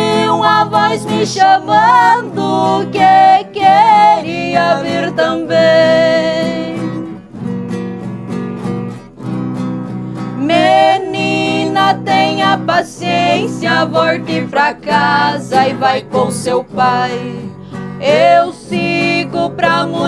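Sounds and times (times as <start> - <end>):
voices singing: 0.0 - 7.2, 10.4 - 20.0
strummed acoustic guitar: 0.0 - 20.0.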